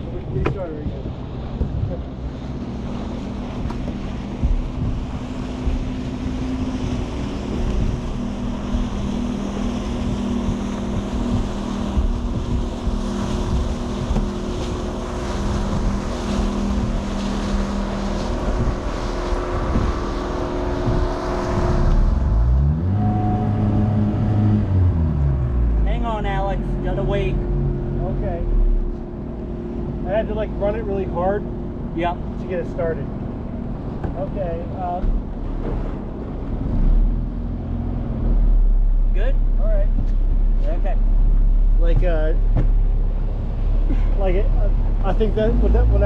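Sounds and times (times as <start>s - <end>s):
outboard motor running hard: 0.0s - 46.0s
water noise: 0.0s - 46.0s
wind noise: 0.0s - 46.0s.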